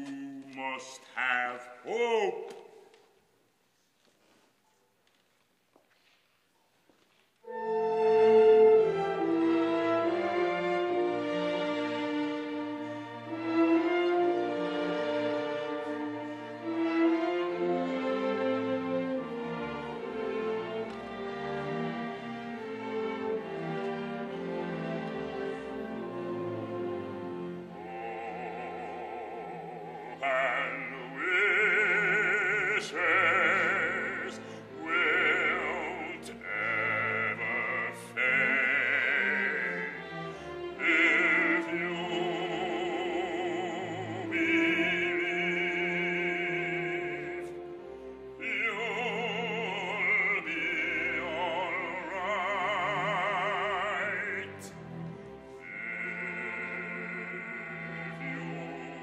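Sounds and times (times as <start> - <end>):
operatic singing: 0.0 - 3.2, 7.4 - 59.0
orchestral accompaniment: 7.4 - 59.0.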